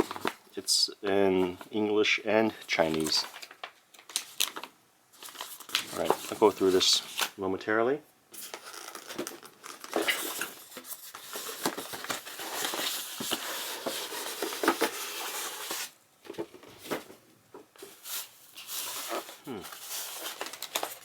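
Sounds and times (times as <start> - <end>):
packaging crinkling and rustling: 0.0 - 0.6, 2.6 - 7.4, 8.4 - 21.0.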